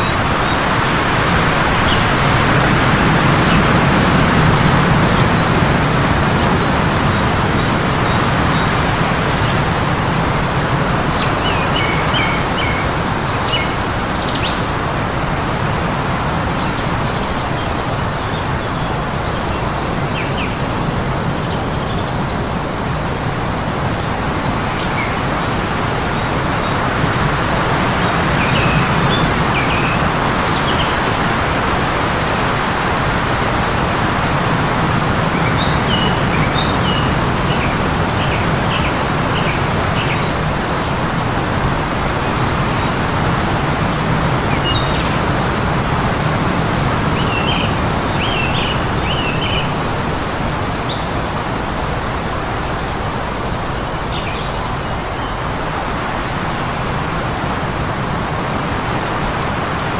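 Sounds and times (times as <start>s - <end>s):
small birds chirping: 0.0s - 15.2s, 16.5s - 59.9s
blizzard wind blowing: 0.0s - 59.9s.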